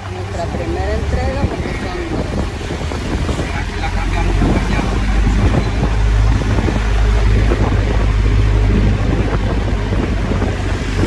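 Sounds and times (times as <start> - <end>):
engine and road rumble: 0.0 - 11.0
wind buffeting microphone: 0.0 - 11.0.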